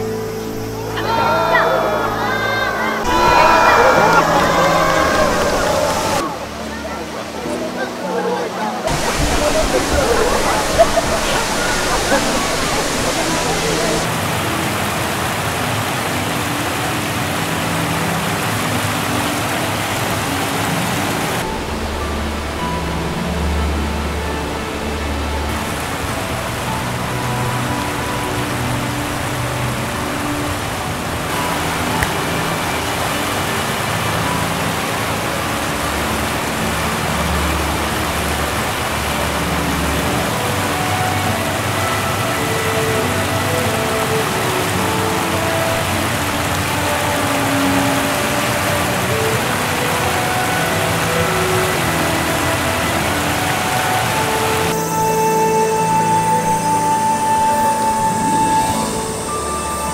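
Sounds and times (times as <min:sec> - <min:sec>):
water rushing over weir: 0:00.0 - 0:59.9.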